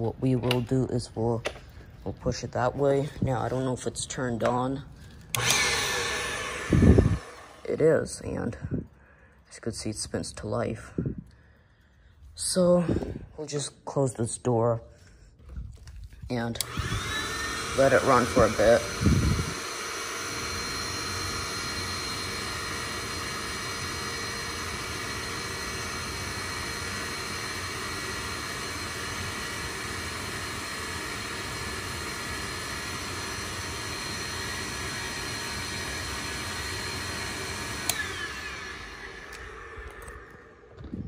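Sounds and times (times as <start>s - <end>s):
vacuum cleaner running: 0.0s - 8.9s, 16.5s - 41.0s.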